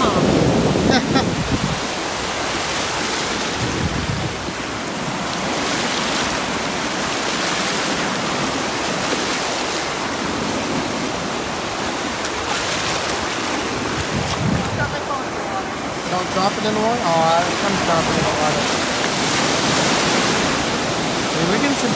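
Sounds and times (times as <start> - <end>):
waves washing on shore: 0.0 - 21.9.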